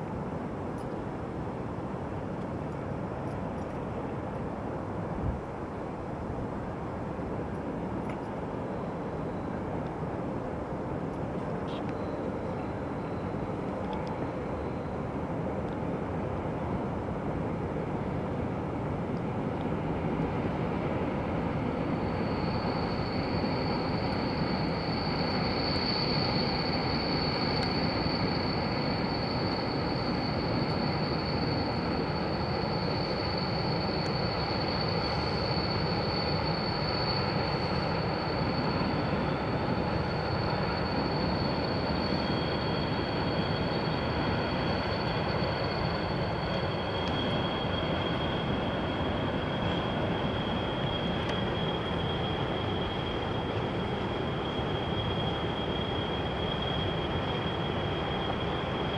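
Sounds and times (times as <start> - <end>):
distant trains rumbling: 0.0 - 58.9
high steady squeal: 7.4 - 58.9.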